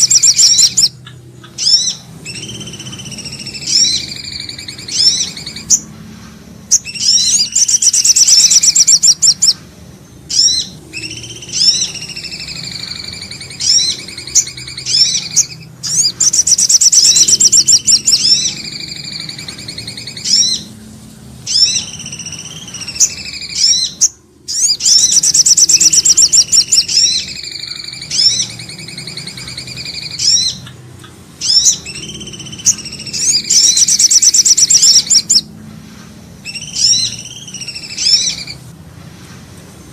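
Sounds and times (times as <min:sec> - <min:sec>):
songbird trills and chirps: 0:00.0 - 0:05.9, 0:06.7 - 0:35.5, 0:36.4 - 0:38.7.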